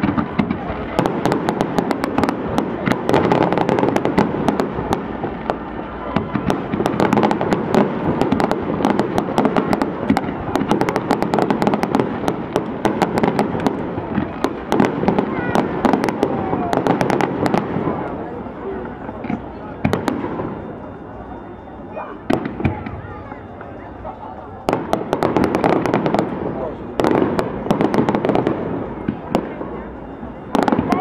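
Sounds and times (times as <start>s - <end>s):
fireworks crackling and popping: 0.0s - 21.3s, 22.2s - 31.0s
fireworks rumble: 0.0s - 31.0s.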